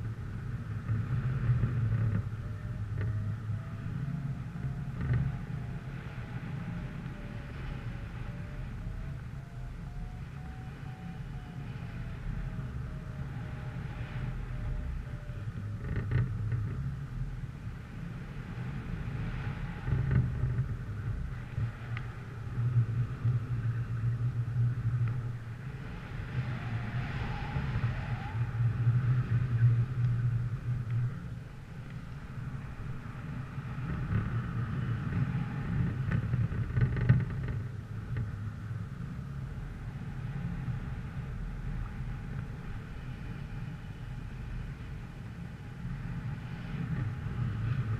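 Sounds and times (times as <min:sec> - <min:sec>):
vehicle engine rumble: 0:00.0 - 0:47.9
wind on microphone: 0:00.0 - 0:47.9.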